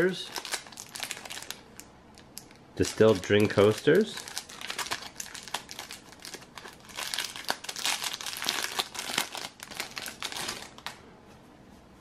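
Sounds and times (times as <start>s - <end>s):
plastic wrapping crinkling: 0.2s - 11.0s.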